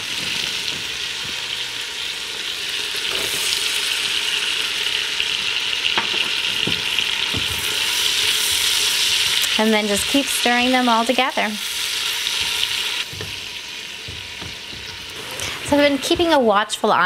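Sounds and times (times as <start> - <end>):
bacon and onions sizzling: 0.0 - 17.0.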